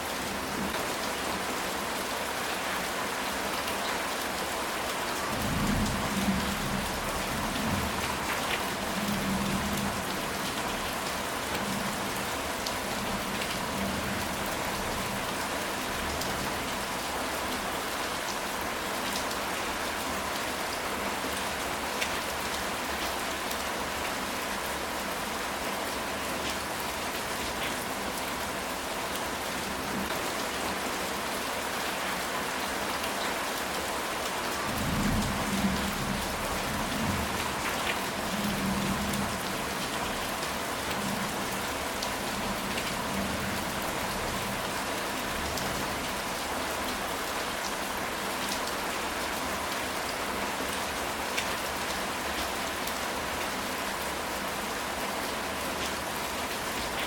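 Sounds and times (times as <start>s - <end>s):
heavy rain on a tile roof: 0.0s - 57.0s.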